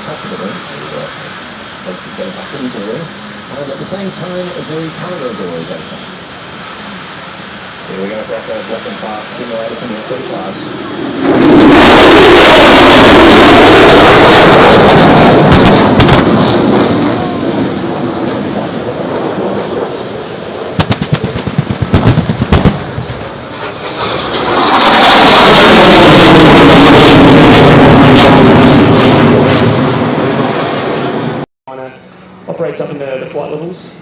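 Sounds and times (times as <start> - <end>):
sharp pyrotechnic blasts: 0.0 - 31.5
jet passing low: 0.0 - 34.0.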